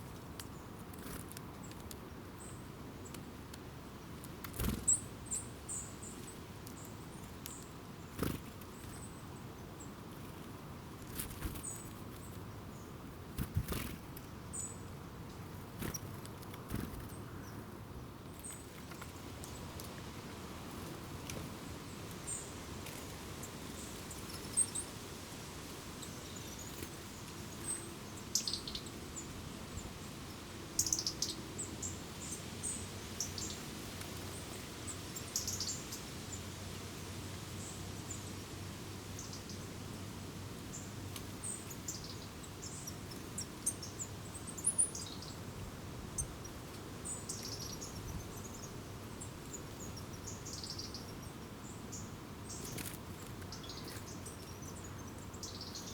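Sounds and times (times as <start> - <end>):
songbirds chirping: 0.0 - 55.9
steady background hiss: 0.0 - 55.9.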